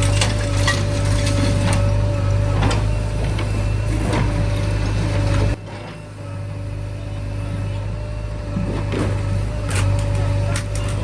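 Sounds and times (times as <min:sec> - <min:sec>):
diesel machinery engine running: 0:00.0 - 0:11.0.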